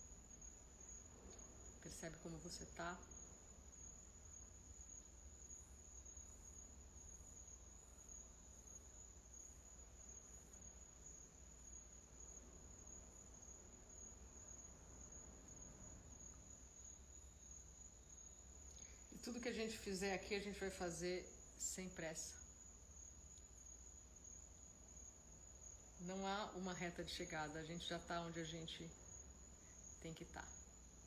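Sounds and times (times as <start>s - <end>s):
crickets chirring: 0.0s - 31.0s.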